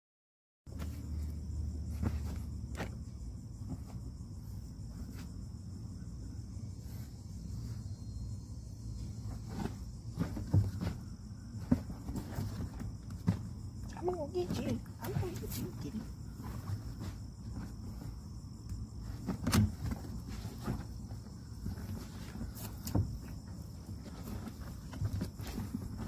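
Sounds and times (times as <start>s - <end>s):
insects chirping: 0.7s - 26.0s.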